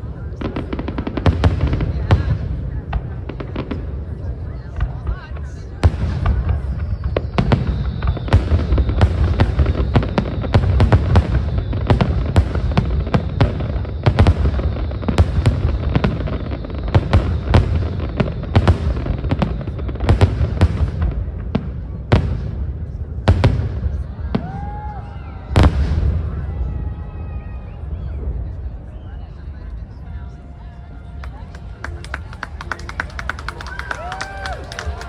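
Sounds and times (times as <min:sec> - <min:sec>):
fireworks cracks and booms: 0:00.0 - 0:28.9, 0:31.2 - 0:35.0.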